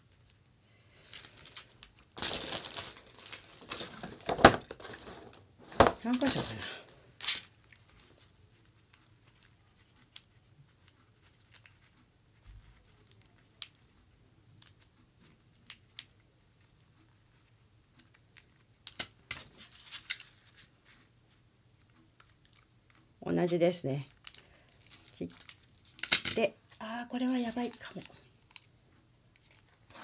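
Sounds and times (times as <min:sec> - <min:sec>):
dried rose crinkling and clicking: 0:00.0 - 0:21.1, 0:21.8 - 0:23.2, 0:24.0 - 0:26.4, 0:27.2 - 0:30.0.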